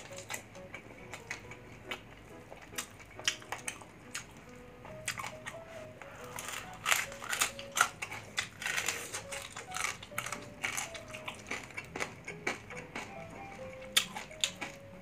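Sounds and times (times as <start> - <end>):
crispy food crunching: 0.0 - 15.0.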